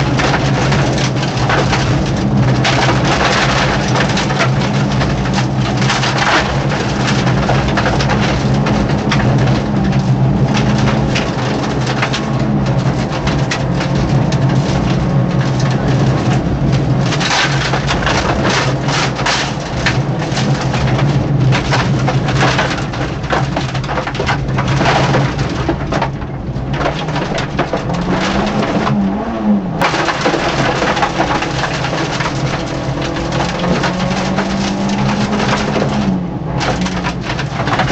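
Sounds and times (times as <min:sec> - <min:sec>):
car engine running hard: 0:00.0 - 0:37.9
knocks and rattles from car body: 0:00.0 - 0:37.9.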